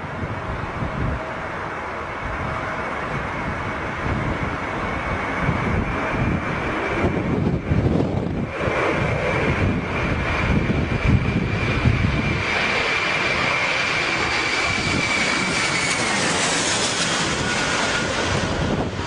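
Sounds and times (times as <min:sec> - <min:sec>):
jet airliner passing overhead: 0:00.0 - 0:19.0
wind buffeting microphone: 0:00.0 - 0:19.0.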